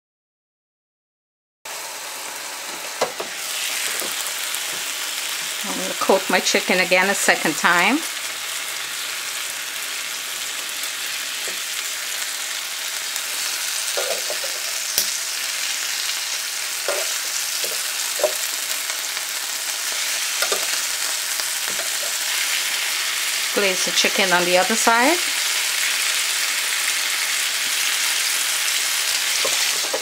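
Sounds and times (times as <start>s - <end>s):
chicken sizzling on a grill: 1.7s - 30.0s.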